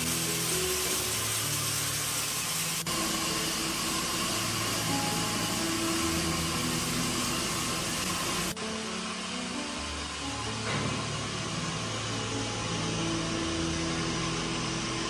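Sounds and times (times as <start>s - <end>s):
background music with held notes: 0.0s - 15.0s
mechanical whirring with hiss: 0.0s - 15.0s.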